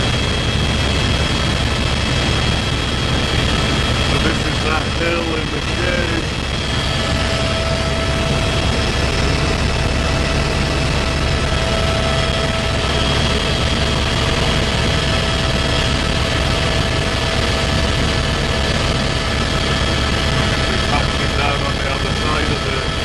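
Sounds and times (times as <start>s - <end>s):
helicopter rotor drone: 0.0s - 23.0s.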